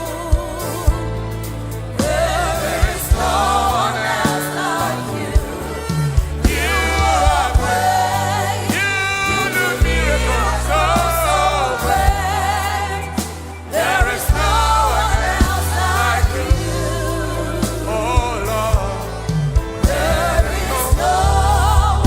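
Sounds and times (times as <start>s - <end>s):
bass line: 0.0s - 22.0s
gospel lead melody with vibrato: 0.0s - 22.0s.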